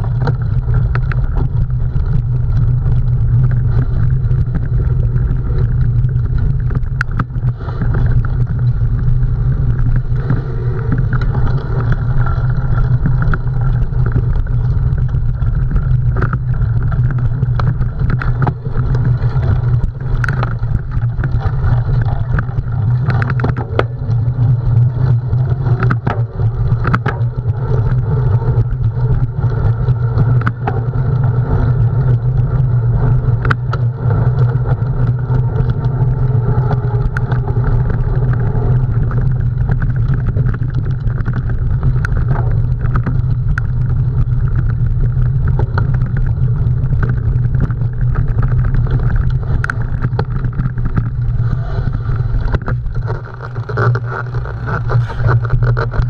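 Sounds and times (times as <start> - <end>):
bike clicks and rattles: 0.0 - 56.0
bike tyre noise on rough ground: 0.0 - 56.0
wind rumble: 0.0 - 56.0.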